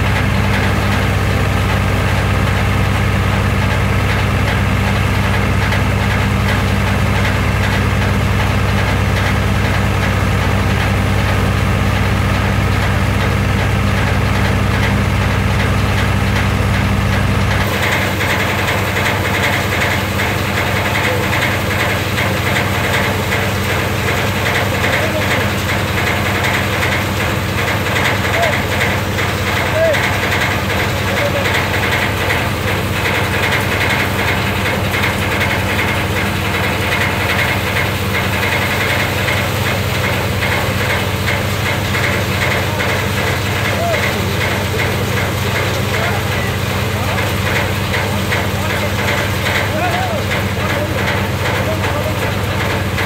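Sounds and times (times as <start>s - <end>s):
thresher machine hum: 0.0s - 53.0s
high machine rattle: 0.1s - 53.0s.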